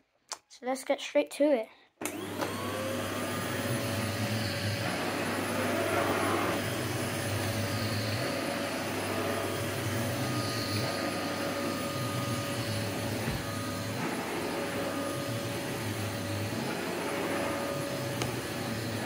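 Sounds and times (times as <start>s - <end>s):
vacuum cleaner running on carpet: 2.0s - 19.0s.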